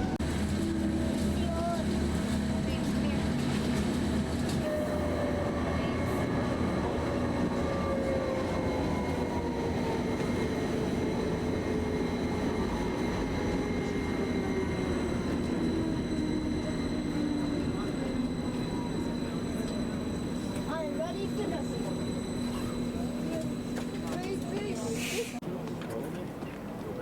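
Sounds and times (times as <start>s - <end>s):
train running: 0.0s - 27.0s.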